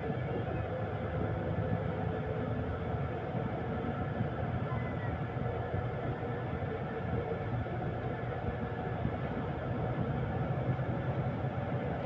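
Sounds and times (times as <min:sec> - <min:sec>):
vehicle interior rumble: 0:00.0 - 0:12.0.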